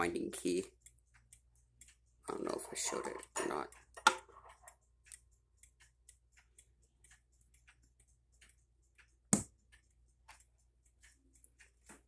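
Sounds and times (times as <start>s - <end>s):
wall clock ticking: 0.0s - 12.0s.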